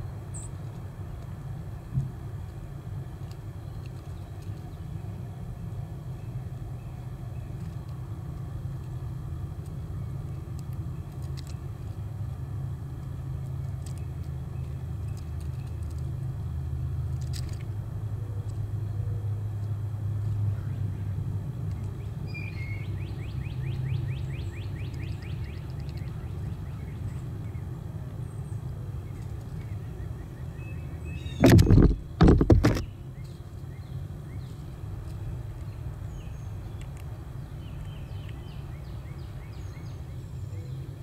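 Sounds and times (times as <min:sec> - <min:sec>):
low outdoor rumble: 0:00.0 - 0:41.0.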